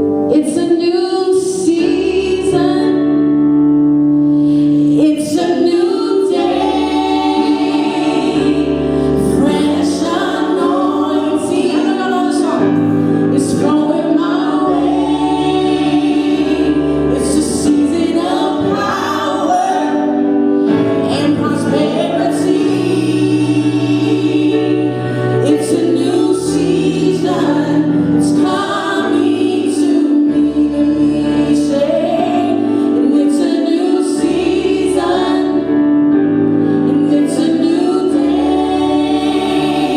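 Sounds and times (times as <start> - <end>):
worship team singing in harmony: 0.1 - 39.9.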